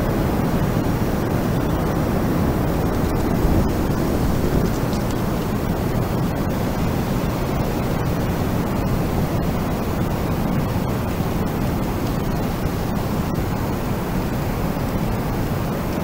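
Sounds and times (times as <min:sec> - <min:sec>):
steady wind rush: 0:00.0 - 0:16.0.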